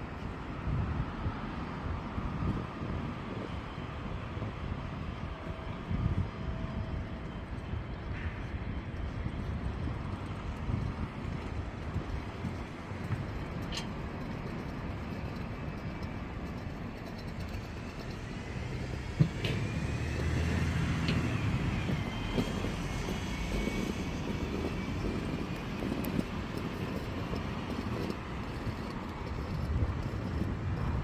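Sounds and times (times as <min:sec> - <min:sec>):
city street traffic: 0:00.0 - 0:31.0
faint whine: 0:00.0 - 0:31.0
large vehicle engine running: 0:02.2 - 0:31.0.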